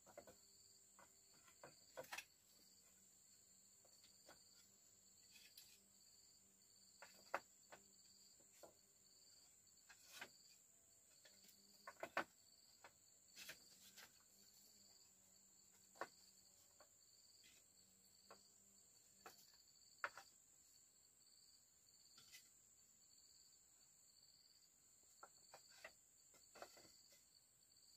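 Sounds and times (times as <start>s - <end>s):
crickets chirring: 0.0s - 27.9s.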